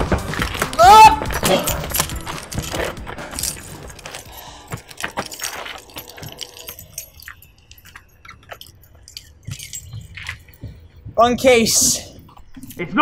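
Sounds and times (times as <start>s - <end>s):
light jangling: 1.6s - 12.8s.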